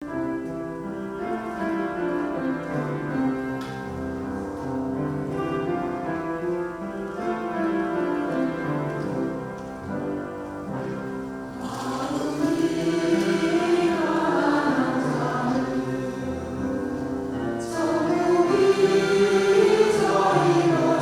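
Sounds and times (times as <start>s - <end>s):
keyboard playing chords: 0.0s - 21.0s.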